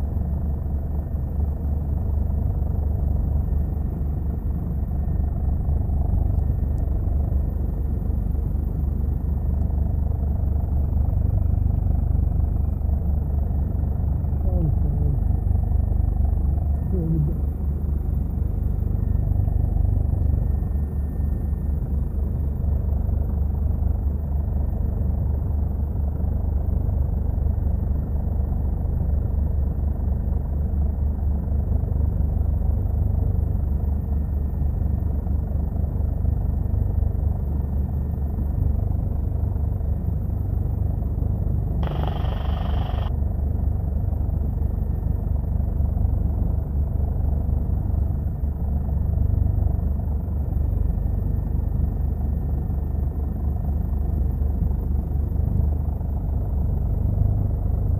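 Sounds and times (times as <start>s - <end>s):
aircraft cabin drone: 0.0s - 57.9s.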